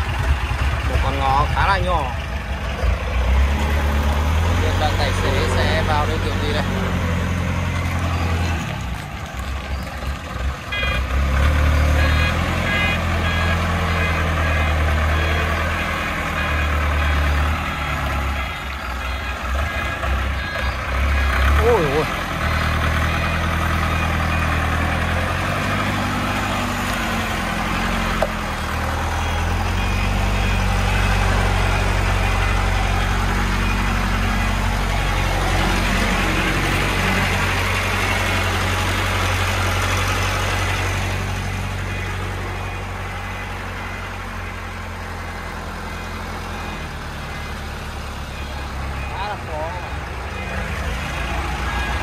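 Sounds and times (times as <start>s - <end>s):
truck engine running slowly: 0.0s - 52.0s.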